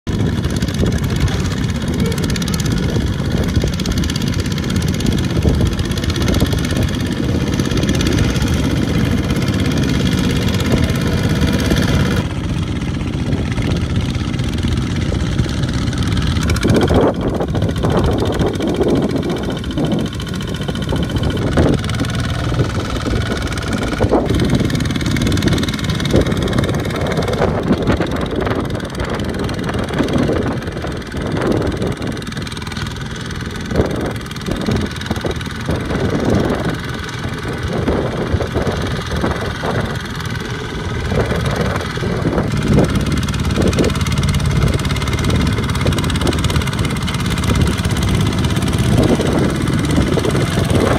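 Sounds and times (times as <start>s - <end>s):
diesel engines running under load: 0.0s - 50.9s.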